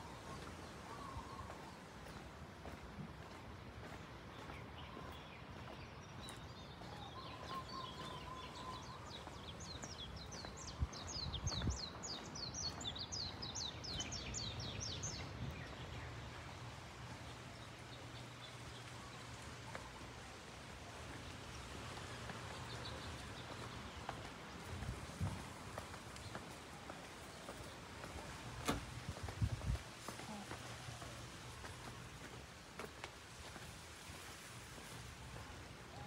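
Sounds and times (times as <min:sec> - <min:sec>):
songbird chirping: 0:00.0 - 0:34.1.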